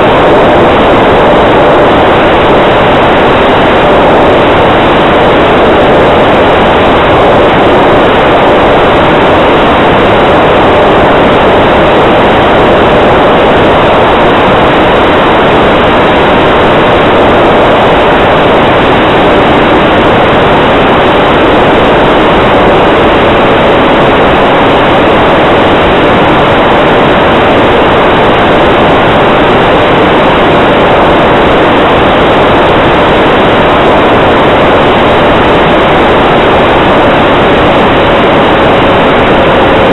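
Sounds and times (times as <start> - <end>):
faint steady whine: 0.0 - 39.9
wind noise on microphone: 0.0 - 39.9.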